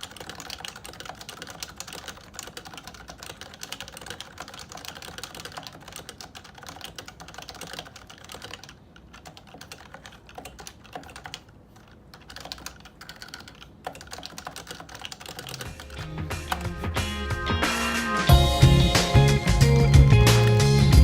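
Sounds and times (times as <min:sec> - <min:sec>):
fast keyboard typing: 0:00.0 - 0:17.1.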